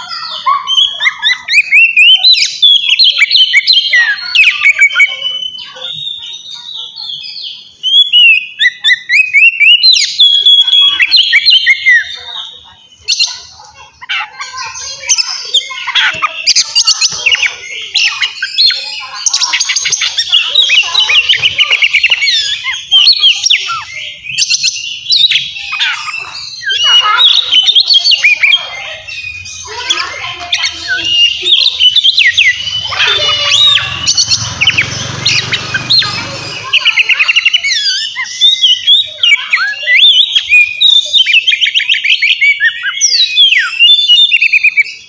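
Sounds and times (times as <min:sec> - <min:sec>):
songbird singing loudly: 0:00.0 - 0:45.0.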